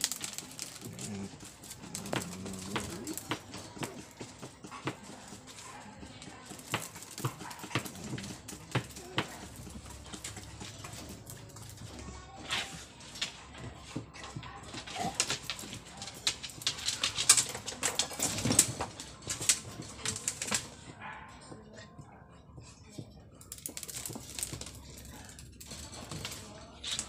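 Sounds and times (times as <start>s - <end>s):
puppy claws rattling wire mesh: 0.0s - 21.6s, 23.4s - 27.0s.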